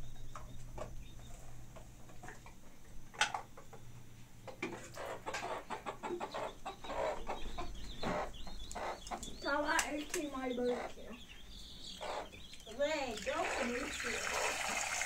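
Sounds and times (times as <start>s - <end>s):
chickens clucking: 0.2s - 14.8s.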